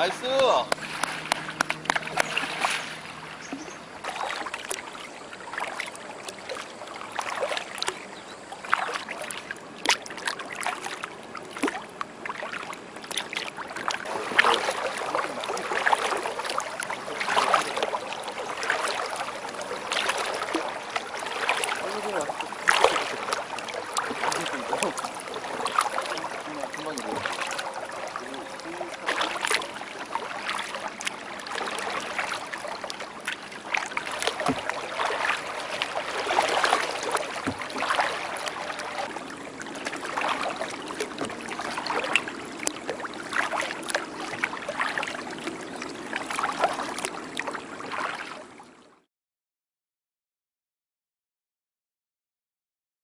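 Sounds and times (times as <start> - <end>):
paddle splashing in water: 0.0 - 48.8.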